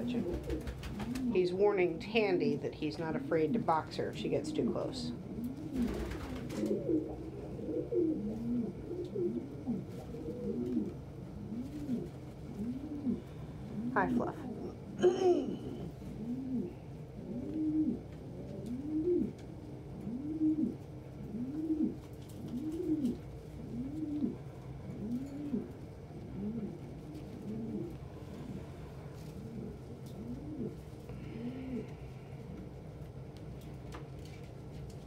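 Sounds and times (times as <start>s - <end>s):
pigeon cooing: 0.0s - 32.9s.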